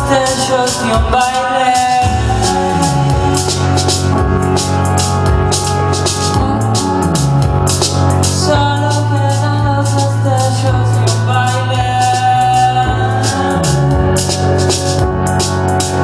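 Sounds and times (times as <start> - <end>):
bass holding low notes: 0.0 - 16.0
drums with cymbal strokes: 0.0 - 16.0
sustained melody line: 0.0 - 16.0.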